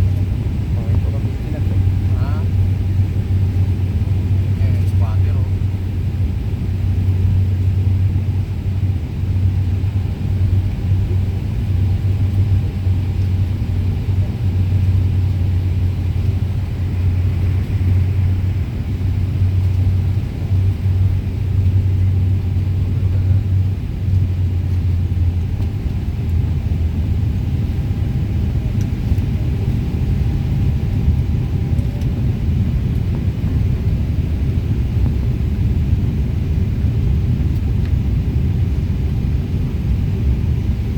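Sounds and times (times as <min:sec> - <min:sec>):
airliner engine rumble: 0:00.0 - 0:40.9.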